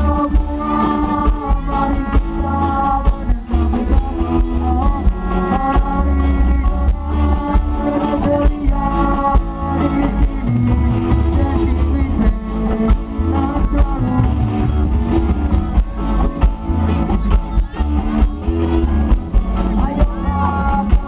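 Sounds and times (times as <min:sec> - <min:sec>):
bass: 0:00.0 - 0:21.0
guitar: 0:00.0 - 0:21.0
live band music: 0:00.0 - 0:21.0
person singing: 0:00.0 - 0:21.0.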